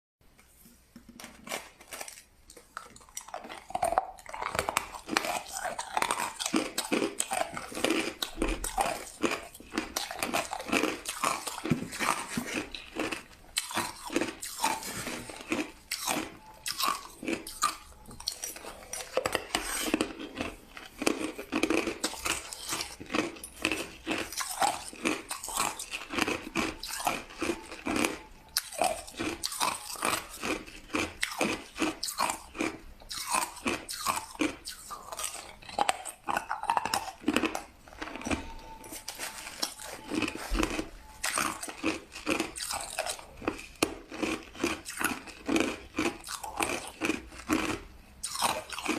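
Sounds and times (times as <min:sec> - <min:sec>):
crushed ice crunching being chewed: 0:01.0 - 0:48.9.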